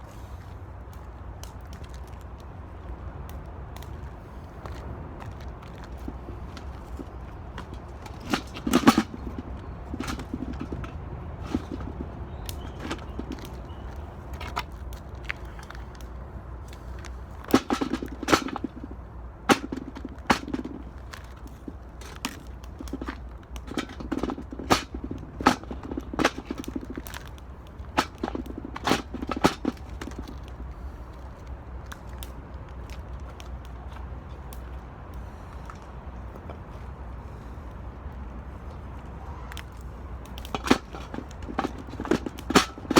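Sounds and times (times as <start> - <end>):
low fire rumble: 0.0 - 42.9
fire cracking in metal can: 0.9 - 36.6, 38.5 - 42.9.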